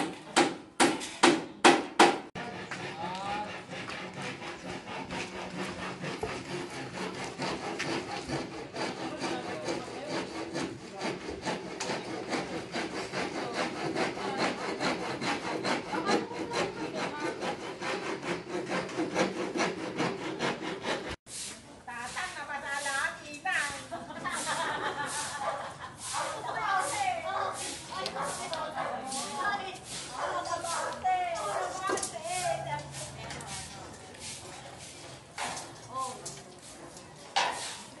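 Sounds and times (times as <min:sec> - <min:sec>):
hand saw cutting wood: 0:00.0 - 0:21.5, 0:24.3 - 0:38.0.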